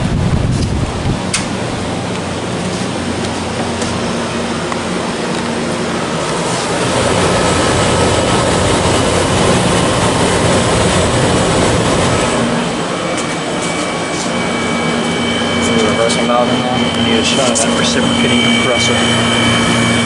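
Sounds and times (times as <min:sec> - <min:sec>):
heat pump rushing air: 0:00.0 - 0:20.0
low hum: 0:00.0 - 0:20.0
steady tones: 0:00.0 - 0:20.0.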